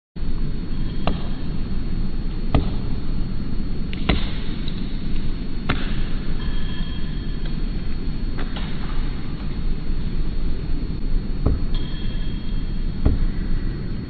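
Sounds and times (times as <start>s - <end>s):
steady low rumble: 0.2s - 14.0s.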